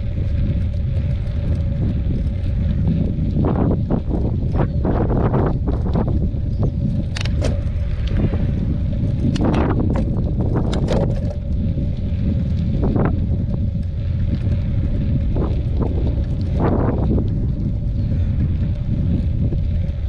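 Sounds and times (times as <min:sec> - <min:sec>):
bicycle clicks and rattles: 0:00.0 - 0:20.0
wind buffeting microphone: 0:00.0 - 0:20.0.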